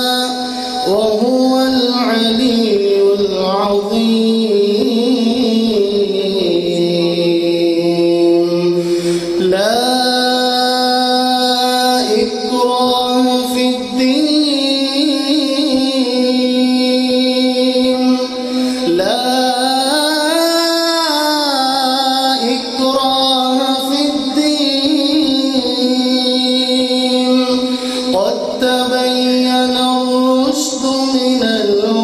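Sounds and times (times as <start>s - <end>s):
man chanting melodically: 0.0s - 32.0s.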